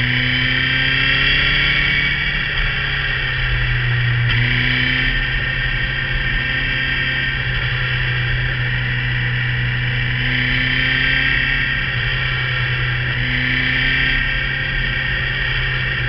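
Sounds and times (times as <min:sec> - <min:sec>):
motorcycle engine drone: 0:00.0 - 0:16.0
wind and road noise: 0:00.0 - 0:16.0.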